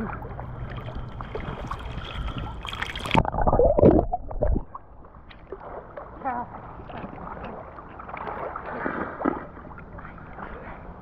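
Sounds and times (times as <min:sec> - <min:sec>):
water splashing and gurgling: 0:00.0 - 0:11.0.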